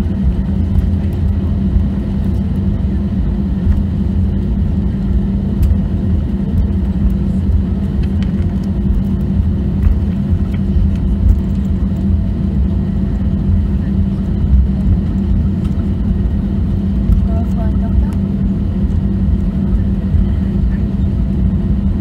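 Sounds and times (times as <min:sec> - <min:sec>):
aircraft cabin rumble: 0:00.0 - 0:22.0
jet engines humming: 0:00.0 - 0:22.0.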